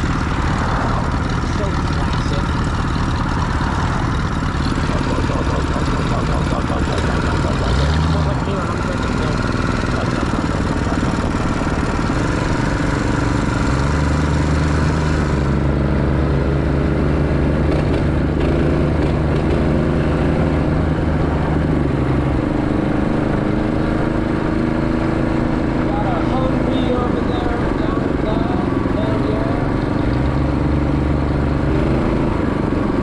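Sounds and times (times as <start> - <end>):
mini bike engine running: 0.0 - 15.6, 17.5 - 20.7, 23.6 - 33.0
deep engine drone: 0.0 - 33.0.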